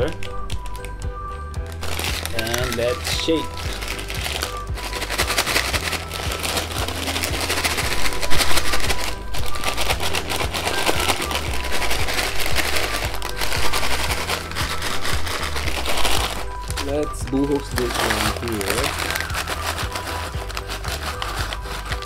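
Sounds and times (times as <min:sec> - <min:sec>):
fries shaken in paper bag: 0:01.7 - 0:22.0.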